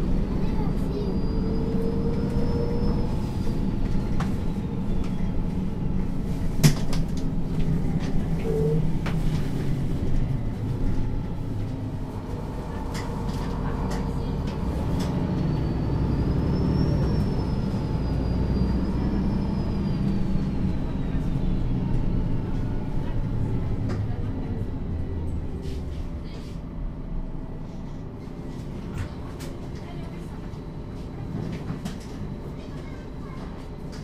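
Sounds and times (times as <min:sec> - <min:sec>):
bus diesel engine humming: 0:00.0 - 0:34.0.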